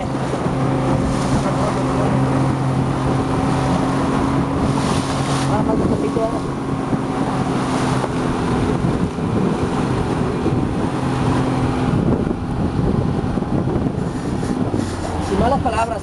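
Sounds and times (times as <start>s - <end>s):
outboard motor humming: 0.0s - 16.0s
wind buffeting microphone: 0.0s - 16.0s.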